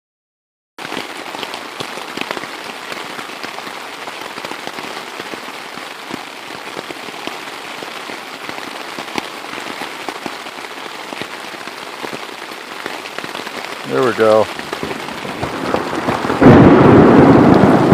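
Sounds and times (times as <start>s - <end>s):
sharp raindrop impacts: 0.8s - 17.9s
steady rain hiss: 0.8s - 17.9s.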